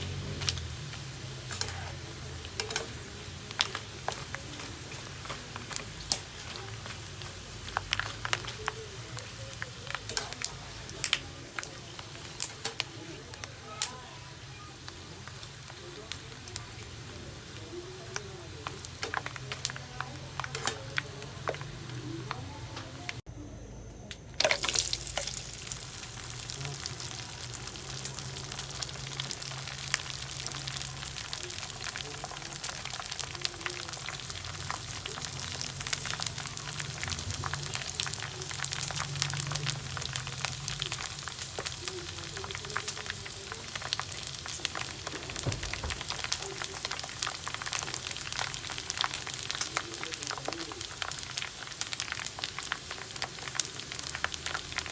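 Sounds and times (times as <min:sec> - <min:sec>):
pork rinds deep-frying in oil: 0:00.0 - 0:23.2, 0:24.3 - 0:54.9.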